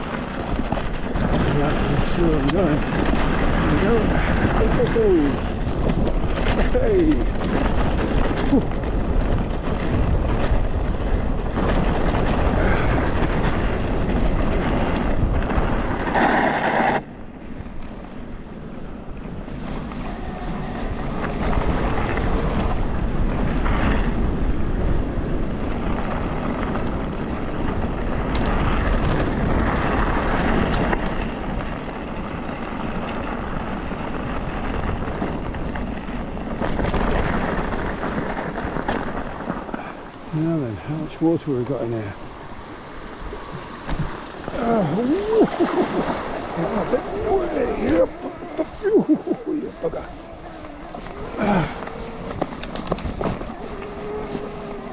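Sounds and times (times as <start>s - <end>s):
bike tyres rattling over stones: 0.0s - 54.9s
wind buffeting microphone: 0.0s - 54.9s.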